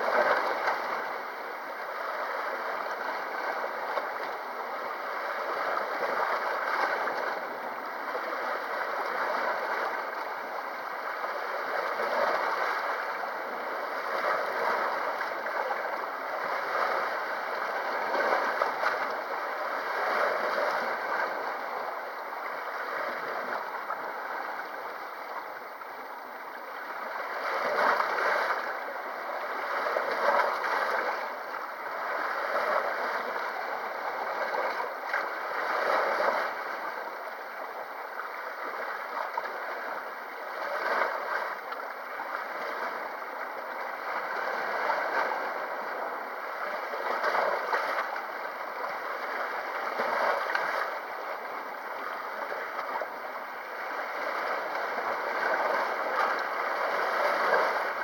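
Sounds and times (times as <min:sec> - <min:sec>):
sea waves lapping at shore: 0:00.0 - 0:58.0.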